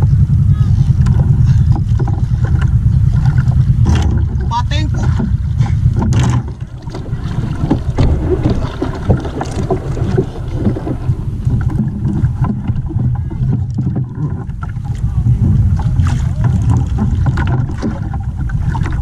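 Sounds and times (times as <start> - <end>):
water lapping at hull: 0.0 - 19.0
wind rumbling on microphone: 0.0 - 19.0
small knocks and splashes: 1.0 - 19.0.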